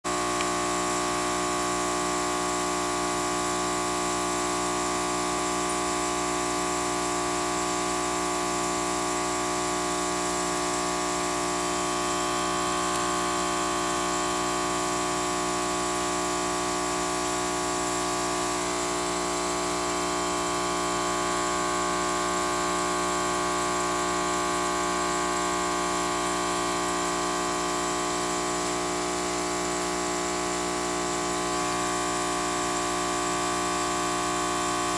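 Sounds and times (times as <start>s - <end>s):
aquarium pump humming: 0.1s - 34.9s.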